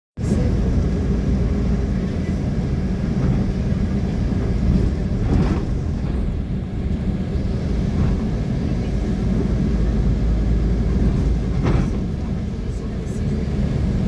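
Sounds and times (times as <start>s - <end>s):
vehicle engine and road rumble: 0.2s - 14.0s.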